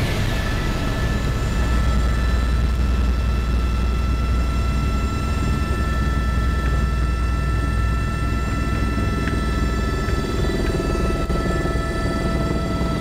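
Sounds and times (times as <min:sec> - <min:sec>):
helicopter engine and rotor drone: 0:00.0 - 0:13.0
high whine: 0:00.0 - 0:13.0.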